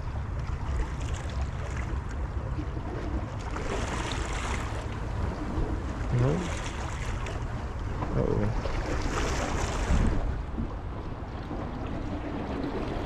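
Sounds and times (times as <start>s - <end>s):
water lapping against rocks: 0.0s - 13.0s
wind buffeting microphone: 0.0s - 13.0s.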